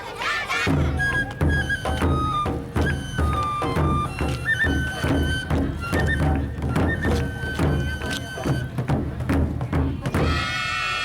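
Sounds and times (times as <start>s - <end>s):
taiko drums beating: 0.6s - 10.7s.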